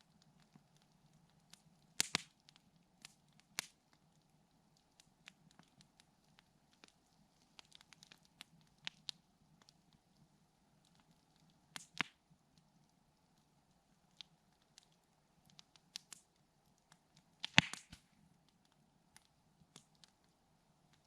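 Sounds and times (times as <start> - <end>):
campfire crackling and popping: 0.0 - 21.0
faint steady background noise: 0.0 - 21.0.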